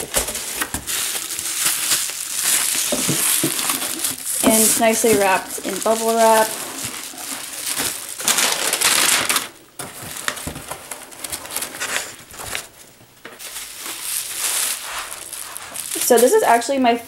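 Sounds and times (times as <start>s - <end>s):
bubble wrap and paper crinkling: 0.0s - 17.0s.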